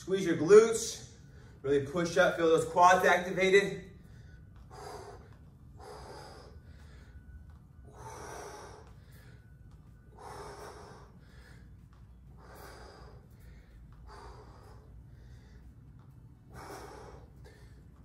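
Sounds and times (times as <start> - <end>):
low steady hum: 0.0 - 18.0
man breathing hard: 0.8 - 18.0.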